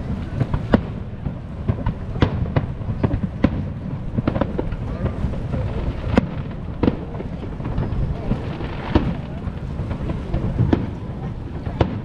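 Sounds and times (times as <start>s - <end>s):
fireworks booms: 0.0s - 12.0s.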